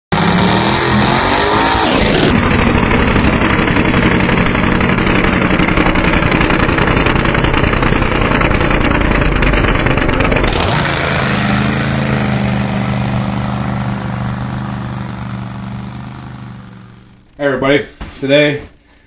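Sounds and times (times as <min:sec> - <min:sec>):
tractor engine at full throttle: 0:00.0 - 0:17.4.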